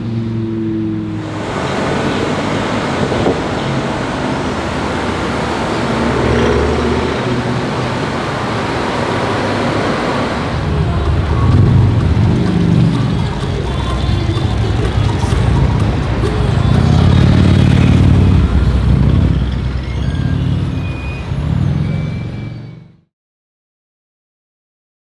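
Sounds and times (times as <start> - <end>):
cars passing: 0.0 - 23.0.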